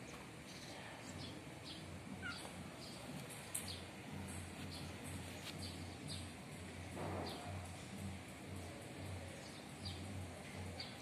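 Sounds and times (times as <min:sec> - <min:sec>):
faint low hum: 0:00.0 - 0:11.0
small birds chirping: 0:00.0 - 0:11.0.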